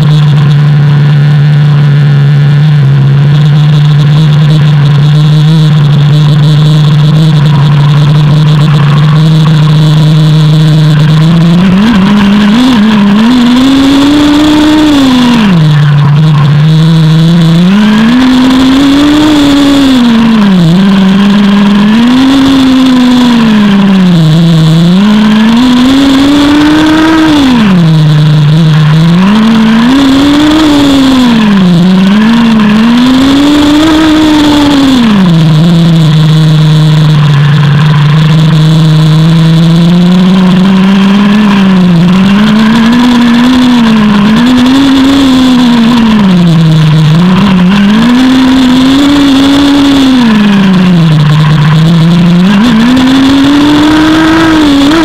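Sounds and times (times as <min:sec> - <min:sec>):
rc car engine idling and revving: 0:00.0 - 0:55.0.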